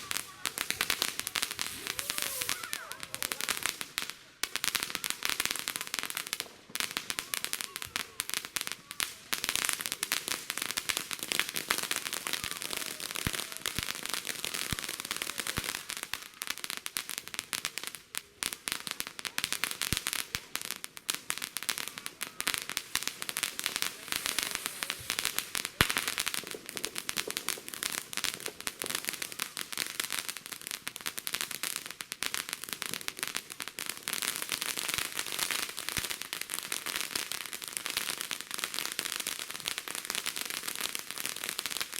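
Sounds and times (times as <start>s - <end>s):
fireworks crackling and popping: 0.0s - 41.9s.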